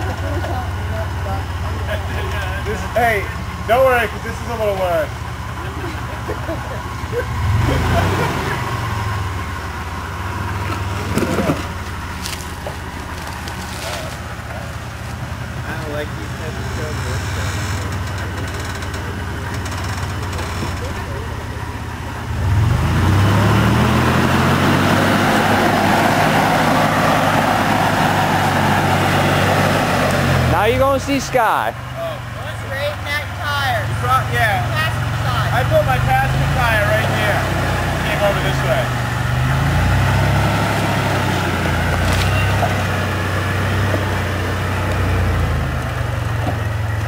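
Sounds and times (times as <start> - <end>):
tires on rock: 0.0 - 47.0
truck engine revving under load: 0.0 - 47.0.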